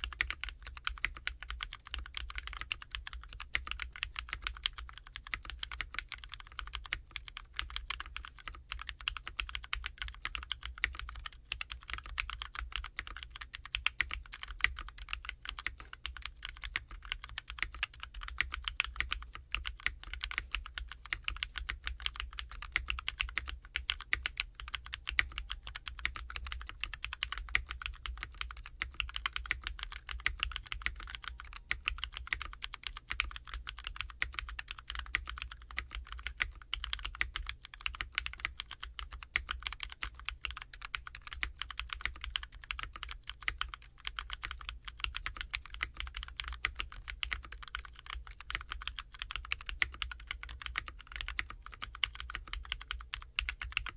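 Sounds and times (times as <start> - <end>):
faint low hum: 0.0 - 53.9
fast typing on mechanical keyboard: 0.0 - 53.9.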